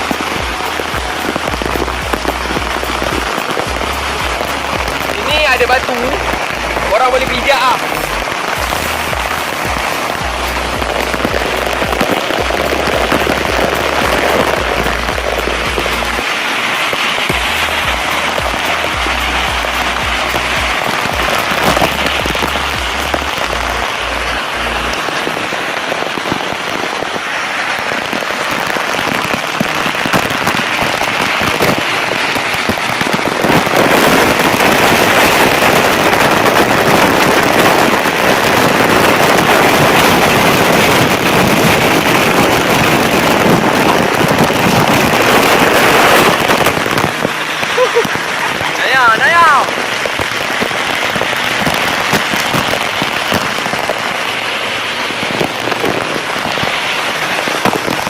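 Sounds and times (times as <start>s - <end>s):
waterfall and stream rushing: 0.0s - 58.0s.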